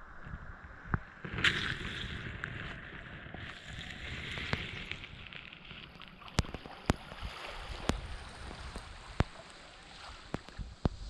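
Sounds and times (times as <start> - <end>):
water sloshing: 1.2 - 11.0
small waves washing on sand: 1.4 - 11.0.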